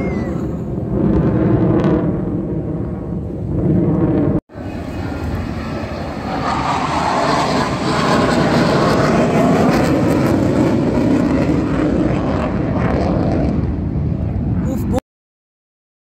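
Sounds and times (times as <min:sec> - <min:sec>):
aircraft engine roar: 0:00.0 - 0:15.0.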